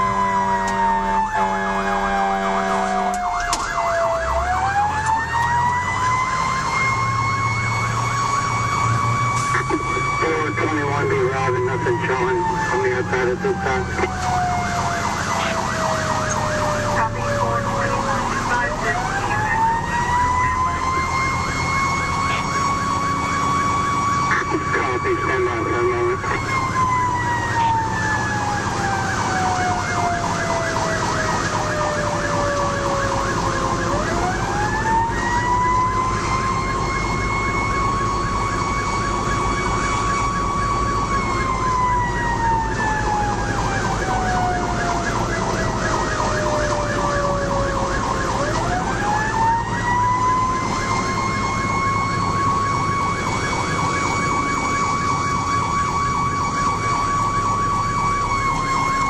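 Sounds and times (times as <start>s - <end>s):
fast pulsing siren tone: 0.0s - 59.0s
fire engine siren wailing: 0.0s - 59.0s
truck engine droning: 0.0s - 59.0s.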